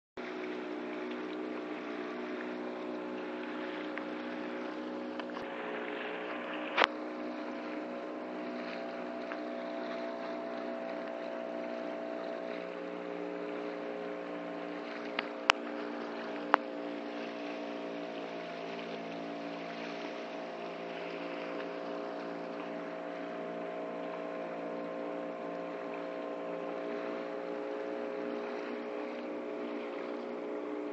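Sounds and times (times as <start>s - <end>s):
small boat engine running: 0.2s - 30.9s.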